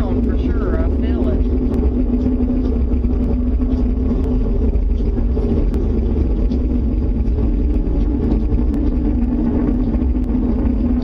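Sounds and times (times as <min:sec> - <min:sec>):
droning hum: 0:00.0 - 0:11.0
loud low rumble: 0:00.0 - 0:11.0.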